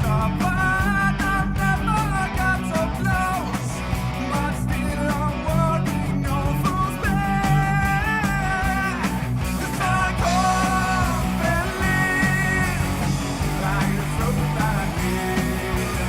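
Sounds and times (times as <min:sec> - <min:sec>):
rock music with guitar and vocals: 0:00.0 - 0:16.0.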